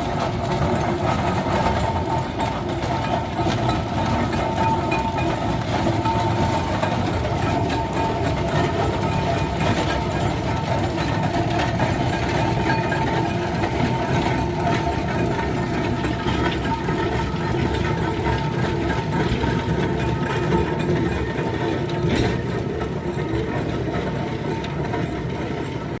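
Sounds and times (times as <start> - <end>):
steam engine clattering: 0.0 - 26.0.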